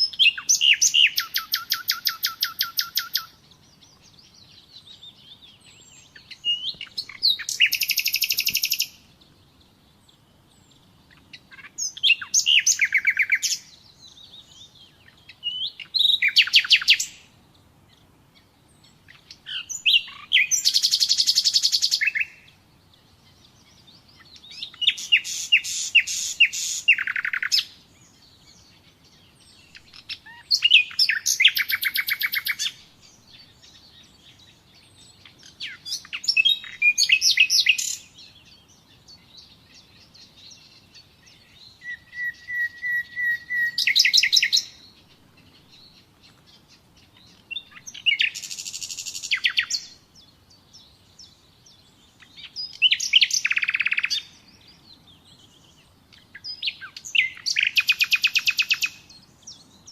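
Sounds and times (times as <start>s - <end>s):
nightingale singing: 0.0s - 59.9s.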